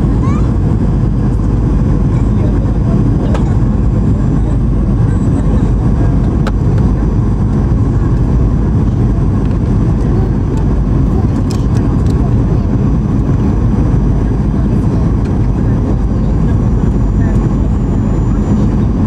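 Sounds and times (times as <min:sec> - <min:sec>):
airplane cabin engine noise: 0:00.0 - 0:19.0.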